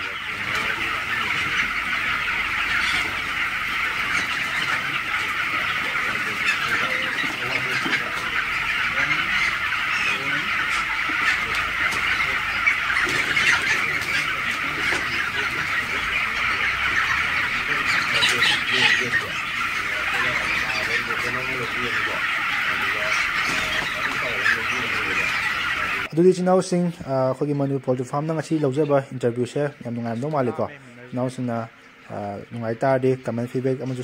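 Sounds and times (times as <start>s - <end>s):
chicks peeping and chirping: 0.0s - 34.0s.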